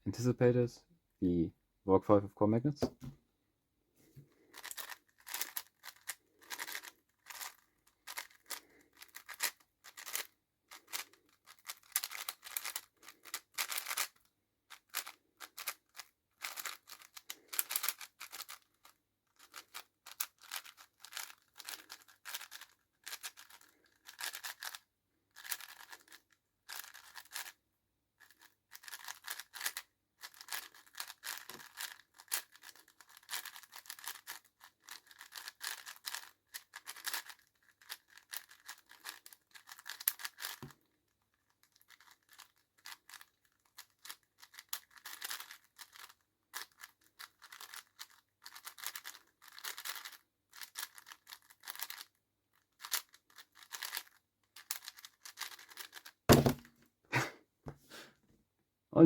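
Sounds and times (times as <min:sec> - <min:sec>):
puzzle cube clicking turns: 0:04.4 - 0:27.6, 0:28.2 - 0:56.6.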